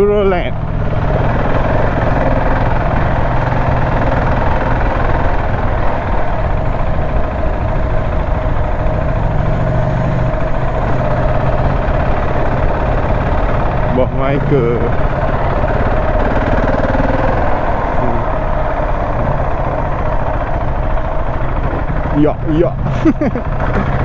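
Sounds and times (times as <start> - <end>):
motorcycle engine running: 0.0 - 24.0
steady rushing noise: 0.0 - 24.0.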